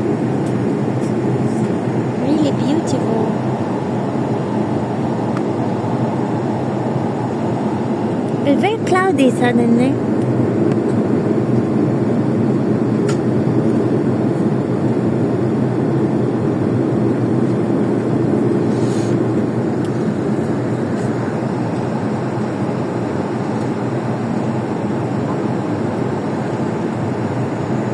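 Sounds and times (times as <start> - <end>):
airplane engine drone: 0.0 - 27.9.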